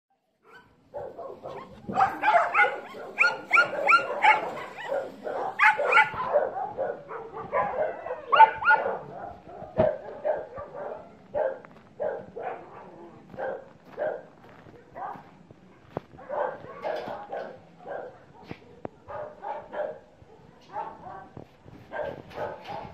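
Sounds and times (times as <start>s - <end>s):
dogs barking: 0.4s - 22.9s.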